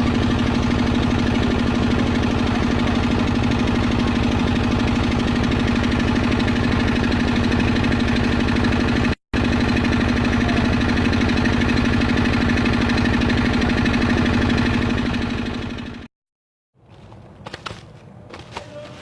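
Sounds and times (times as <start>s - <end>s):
small engine knocking: 0.0s - 16.1s.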